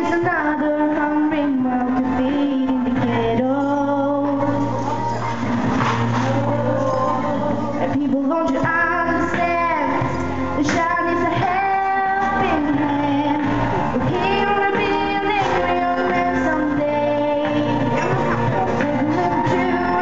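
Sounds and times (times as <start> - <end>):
backing music: 0.0 - 20.0
person singing with vibrato: 0.0 - 20.0.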